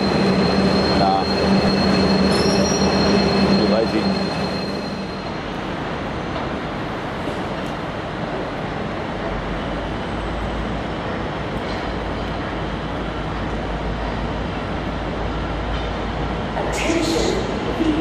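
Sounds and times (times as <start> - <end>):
diesel engine drone: 0.0 - 18.0
train rolling on rails: 0.0 - 18.0.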